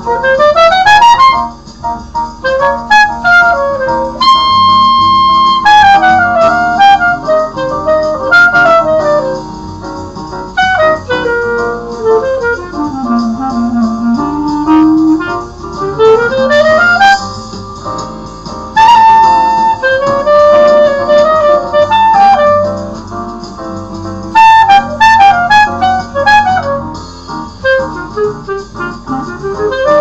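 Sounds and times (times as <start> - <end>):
clarinet playing jazz melody: 0.0 - 30.0.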